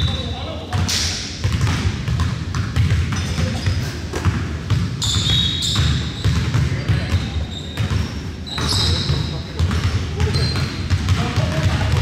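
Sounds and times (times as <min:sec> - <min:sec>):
sneakers squeaking: 0:00.0 - 0:12.0
basketball dribbling on wood floor: 0:01.4 - 0:12.0.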